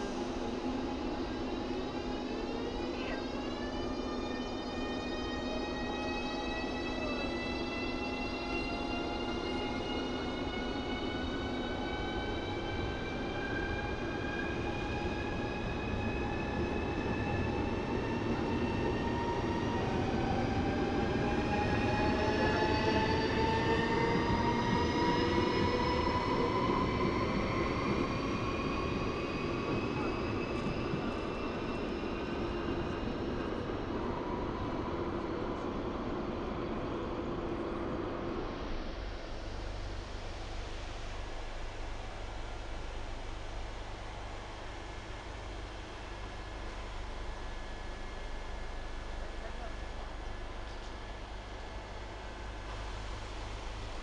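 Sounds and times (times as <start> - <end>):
train running noise: 0.0 - 54.0.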